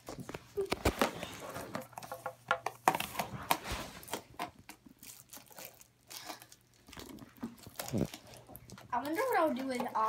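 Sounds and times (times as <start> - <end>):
plastic packaging crinkling: 0.2 - 10.0.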